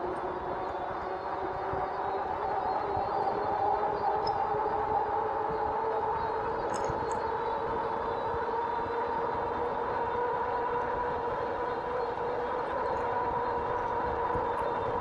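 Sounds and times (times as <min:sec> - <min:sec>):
electric bike motor whine: 0:00.0 - 0:15.0.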